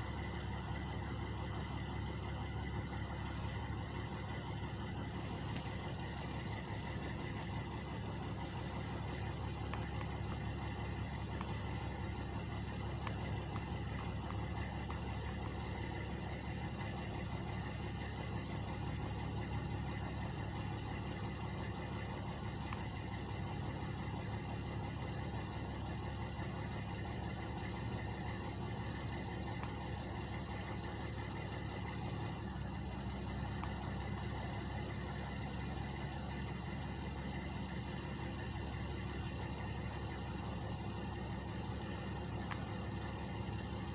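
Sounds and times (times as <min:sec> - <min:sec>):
truck engines idling: 0:00.0 - 0:43.9.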